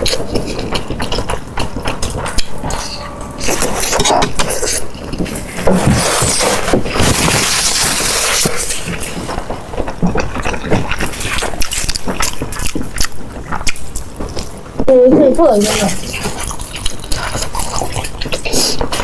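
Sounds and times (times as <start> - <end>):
crunchy food being chewed: 0.0 - 14.8, 15.6 - 19.0.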